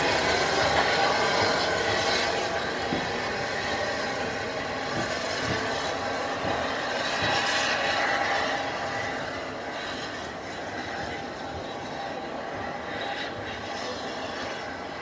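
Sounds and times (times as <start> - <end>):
steam locomotive running: 0.0 - 15.0.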